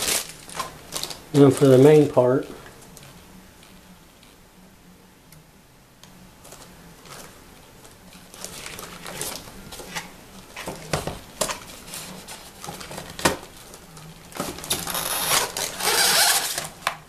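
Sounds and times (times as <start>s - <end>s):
styrofoam and plastic wrap rustling: 0.0s - 4.3s, 6.4s - 17.0s.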